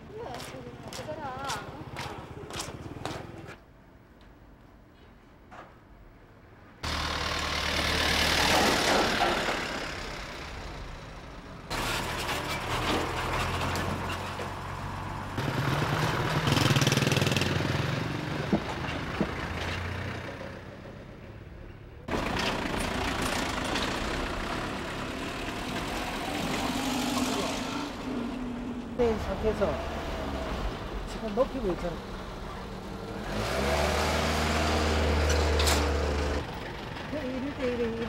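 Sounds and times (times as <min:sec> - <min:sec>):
vehicles driving over level crossing: 0:06.8 - 0:38.0.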